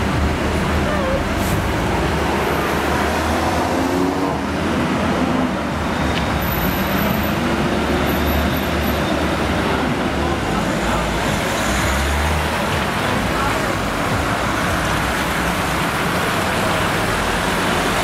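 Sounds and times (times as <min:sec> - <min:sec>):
car traffic passing: 0:00.0 - 0:18.0
tractor diesel engines: 0:00.0 - 0:18.0.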